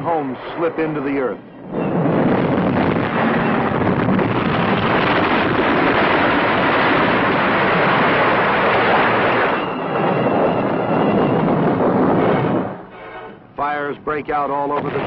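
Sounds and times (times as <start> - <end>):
loud steady roar: 0.0 - 13.6.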